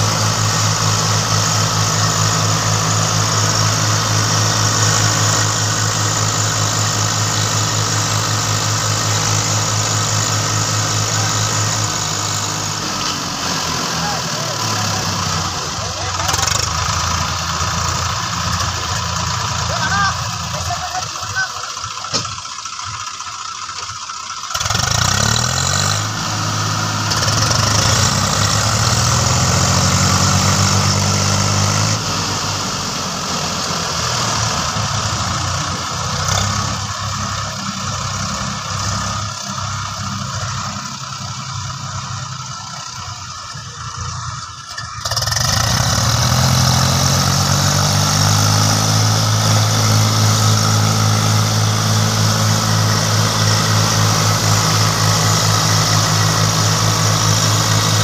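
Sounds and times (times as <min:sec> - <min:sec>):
tractor diesel engines straining: 0:00.0 - 0:58.0.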